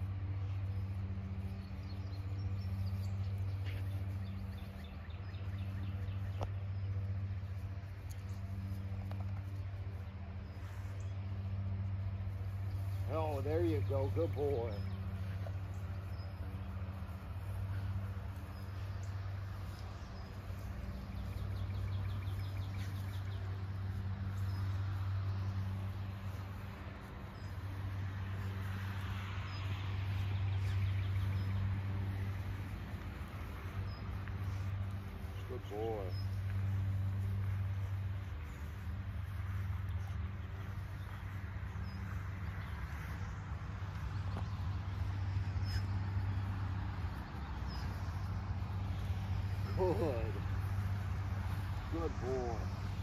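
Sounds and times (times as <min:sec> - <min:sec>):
low machine hum: 0:00.0 - 0:53.0
bird chirping: 0:00.3 - 0:43.3, 0:43.9 - 0:53.0.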